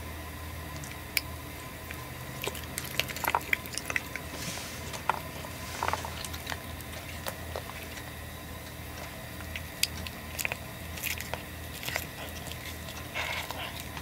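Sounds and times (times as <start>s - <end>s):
cat chewing grass: 0.7s - 14.0s.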